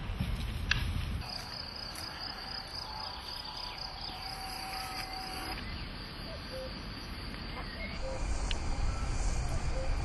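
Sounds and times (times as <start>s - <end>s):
cricket trilling: 1.2s - 10.0s.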